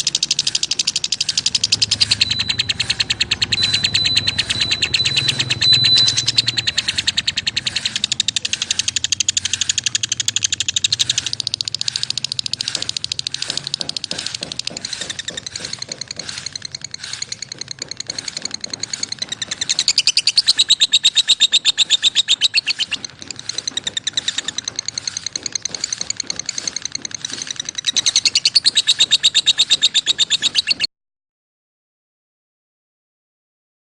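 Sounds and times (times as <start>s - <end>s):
lovebirds chirping: 0.0s - 30.9s.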